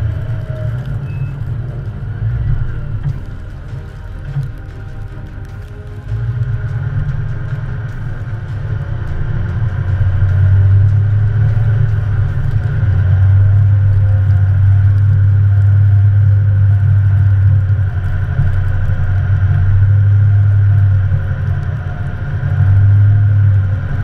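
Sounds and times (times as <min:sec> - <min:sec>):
diesel pickup engine under load: 0:00.0 - 0:24.0.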